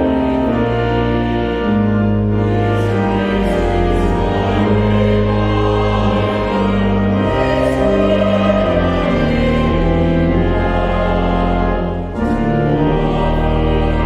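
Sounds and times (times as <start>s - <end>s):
organ chords: 0.0s - 14.0s
voices singing: 2.4s - 14.0s.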